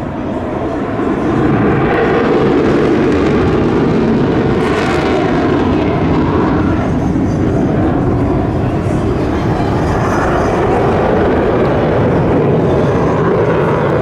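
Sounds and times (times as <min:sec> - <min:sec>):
jet engines flying overhead: 0:00.0 - 0:14.0.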